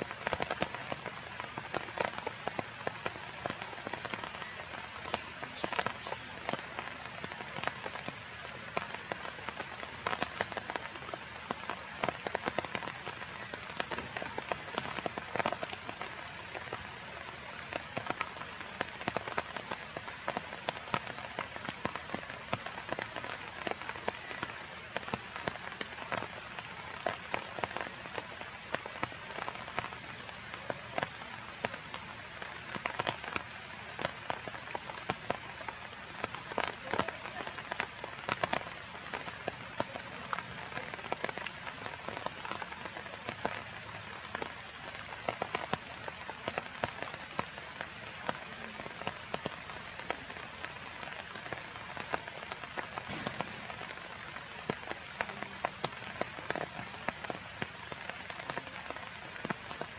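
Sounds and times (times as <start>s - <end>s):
rain falling on leaves: 0.0s - 59.9s
raindrops ticking close by: 0.0s - 59.9s.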